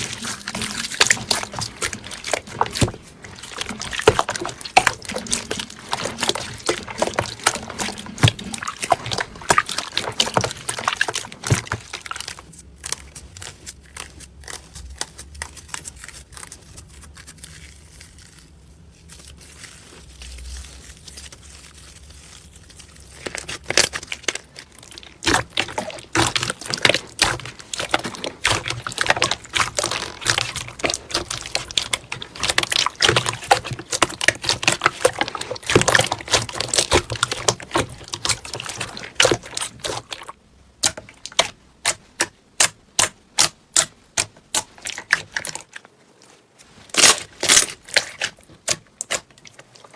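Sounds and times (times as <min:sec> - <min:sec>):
slime squelching and clicking: 0:00.0 - 0:16.0, 0:23.2 - 0:45.9, 0:46.6 - 0:49.9.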